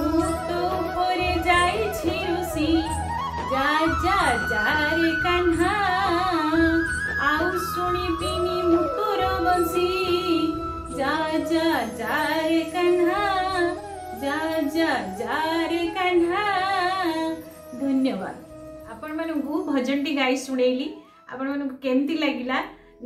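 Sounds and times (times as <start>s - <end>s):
woman singing: 0.0s - 19.1s
devotional instrumental music: 0.0s - 21.3s.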